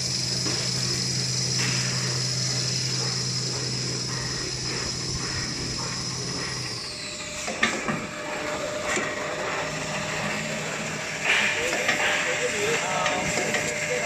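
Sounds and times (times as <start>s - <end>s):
machinery motor whine and hum: 0.0s - 14.0s.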